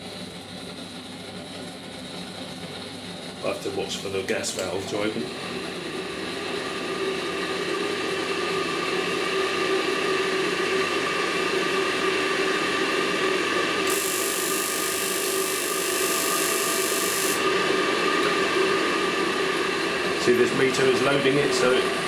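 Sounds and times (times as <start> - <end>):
boiler mechanical hum: 0.0 - 22.0.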